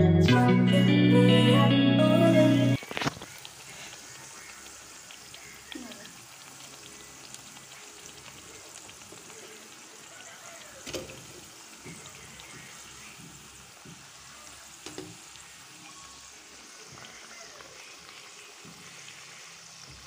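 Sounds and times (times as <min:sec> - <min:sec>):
fritters sizzling in hot oil: 0:02.8 - 0:20.0.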